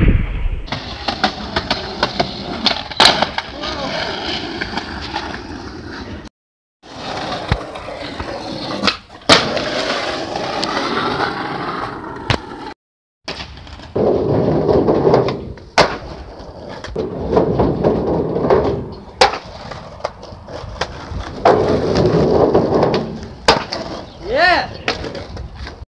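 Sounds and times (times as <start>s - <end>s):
skateboard popping and landing: 0.7s - 6.2s, 6.9s - 24.1s, 24.8s - 25.8s
skateboard wheels rolling on asphalt: 0.7s - 25.8s.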